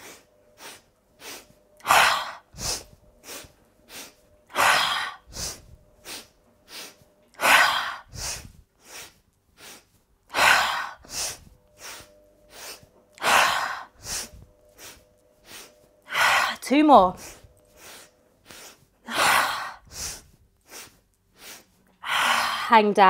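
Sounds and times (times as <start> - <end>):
woman sniffing inhales: 0.0 - 22.7.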